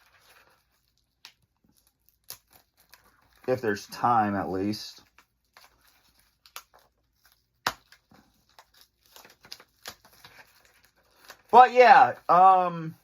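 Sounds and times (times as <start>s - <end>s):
packaging crinkling: 0.0s - 3.8s, 5.0s - 12.5s.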